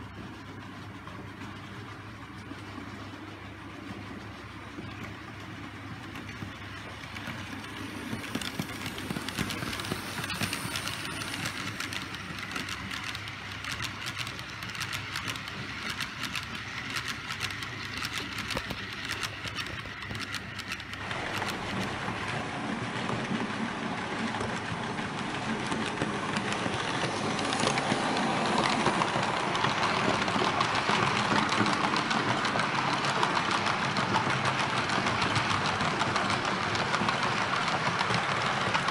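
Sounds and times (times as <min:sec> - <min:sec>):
model train wheels clicking on rails: 0:05.6 - 0:38.9.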